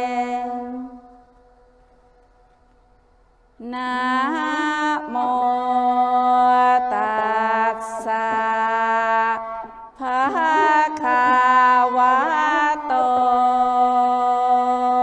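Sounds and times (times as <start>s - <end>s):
person chanting in long notes: 0.0s - 2.2s, 3.6s - 15.0s.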